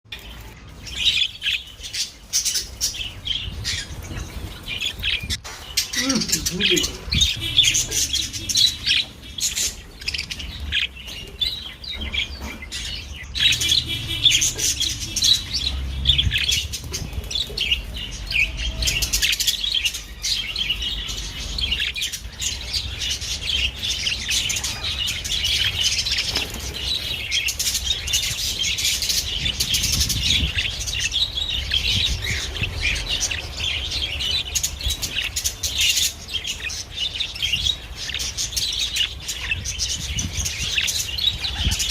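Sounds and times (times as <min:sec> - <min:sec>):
budgerigars chattering: 0:00.9 - 0:41.9.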